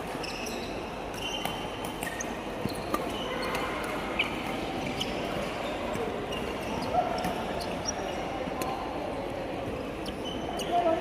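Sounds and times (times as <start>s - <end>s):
shoes squeaking on court floor: 0.0s - 8.4s, 9.7s - 11.0s.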